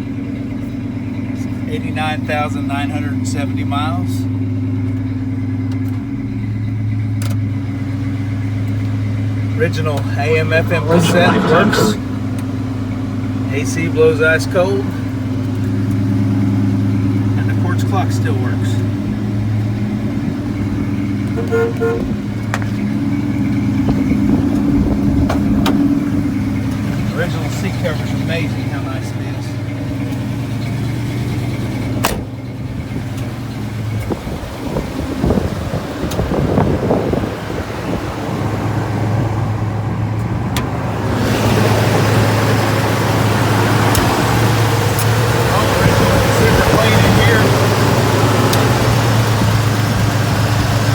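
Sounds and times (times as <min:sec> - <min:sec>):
truck engine idling: 0:00.0 - 0:35.0, 0:37.4 - 0:50.9.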